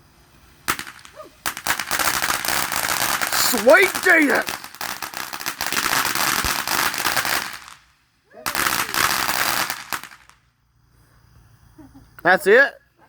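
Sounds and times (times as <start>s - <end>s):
firework crackling: 0.0s - 10.6s.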